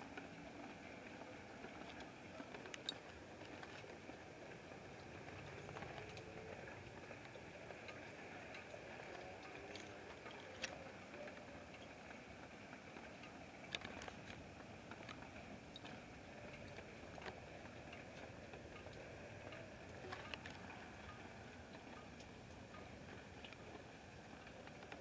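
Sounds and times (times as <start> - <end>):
faint outdoor night hiss: 0.0 - 25.0.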